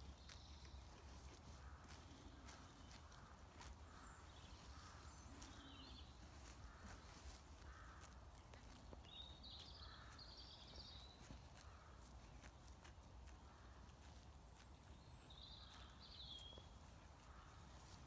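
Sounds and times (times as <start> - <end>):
faint distant bird calls: 0.0 - 18.0.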